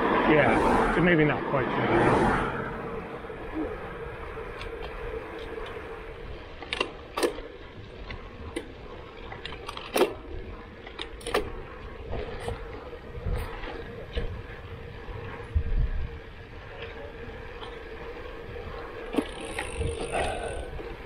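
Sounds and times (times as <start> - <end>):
bicycle tyres on asphalt: 0.0 - 21.0
bike clicks and rattles: 3.7 - 21.0.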